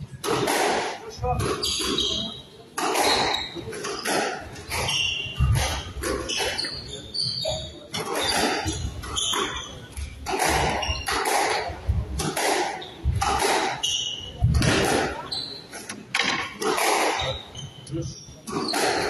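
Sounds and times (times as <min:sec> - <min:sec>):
squash ball striking racquets and walls: 0:00.0 - 0:17.8, 0:18.4 - 0:19.0
shoes squeaking: 0:00.2 - 0:19.0.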